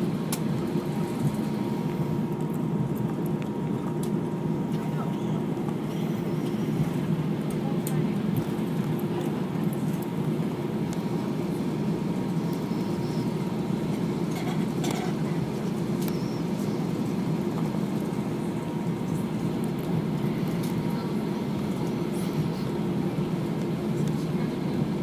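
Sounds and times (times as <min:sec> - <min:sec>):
aircraft cabin engine hum: 0:00.0 - 0:25.0.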